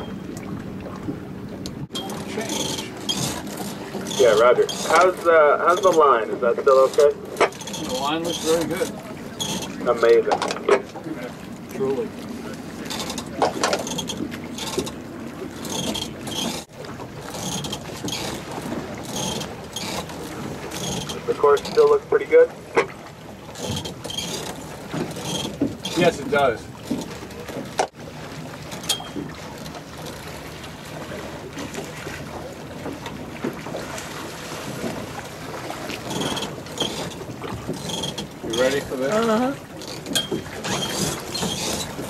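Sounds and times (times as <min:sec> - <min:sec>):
wind and water washing around boat: 0:00.0 - 0:42.0.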